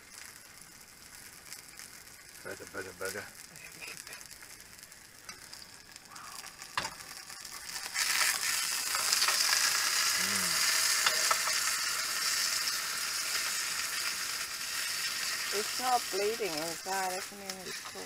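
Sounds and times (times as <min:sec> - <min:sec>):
meat patty sizzling in a pan: 0:00.0 - 0:18.0.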